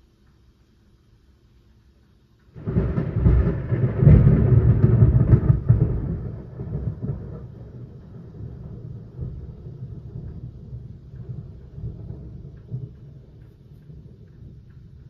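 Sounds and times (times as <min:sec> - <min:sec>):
thunder rumbling: 0:02.5 - 0:15.0.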